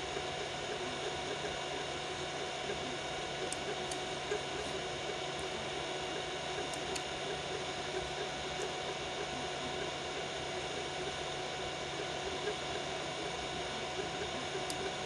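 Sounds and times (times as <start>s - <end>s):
printer fans and motors whirring: 0.0s - 15.0s.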